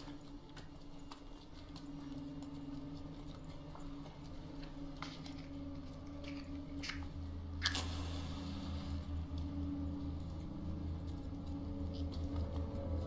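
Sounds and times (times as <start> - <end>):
low steady drone: 0.0 - 13.0.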